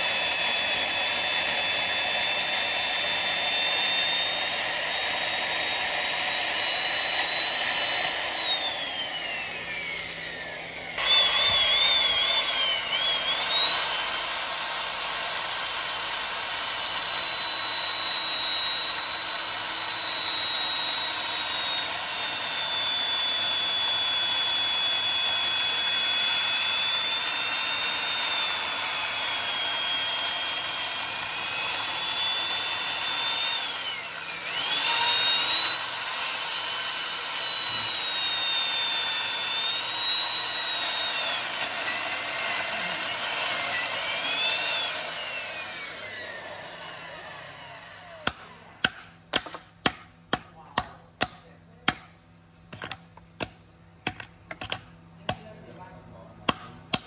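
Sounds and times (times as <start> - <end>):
chainsaw motor winding down: 0.0 - 48.8
electric chainsaw cutting wood: 0.0 - 49.7.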